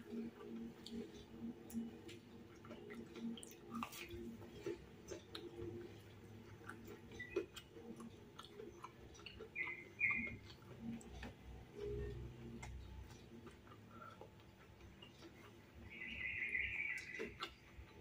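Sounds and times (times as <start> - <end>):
chewing crispy food: 0.0 - 18.0
faint steady hum: 0.0 - 18.0.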